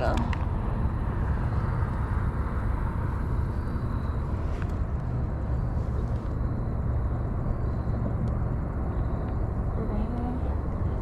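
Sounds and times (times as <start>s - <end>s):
low rumbling outdoor noise: 0.0s - 11.0s.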